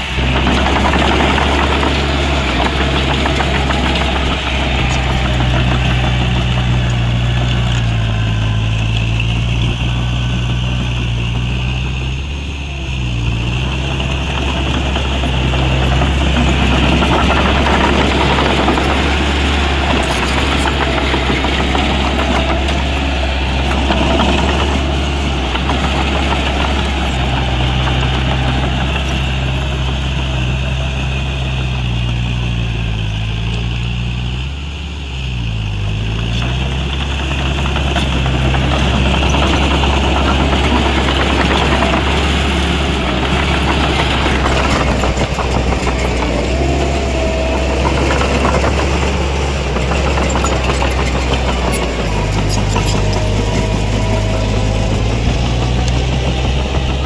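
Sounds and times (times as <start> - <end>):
heavy machinery diesel engine running: 0.0 - 57.0.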